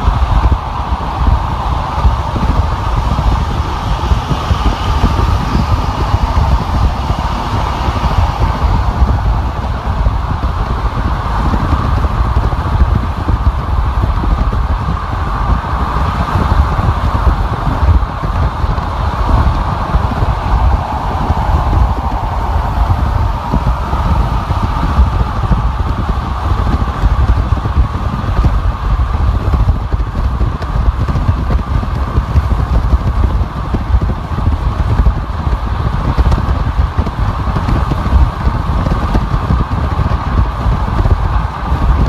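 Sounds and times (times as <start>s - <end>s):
car tyre and road noise: 0.0s - 42.0s.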